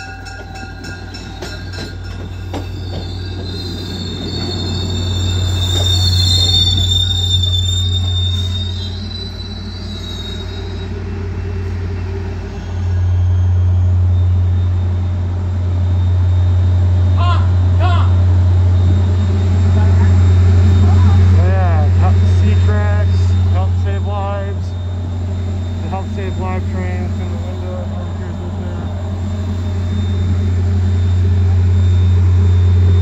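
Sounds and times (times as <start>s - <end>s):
train wheels squealing on rails: 0.0s - 33.0s.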